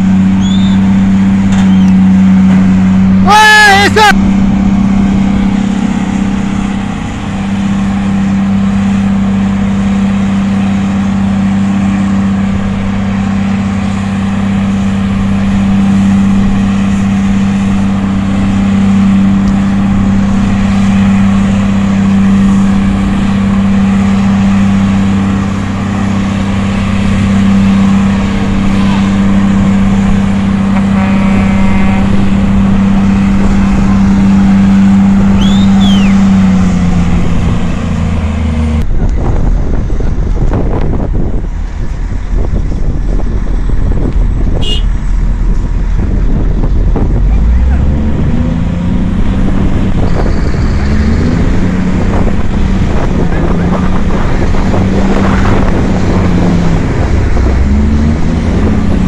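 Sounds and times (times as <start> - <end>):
heavy diesel engines droning: 0.0 - 59.0.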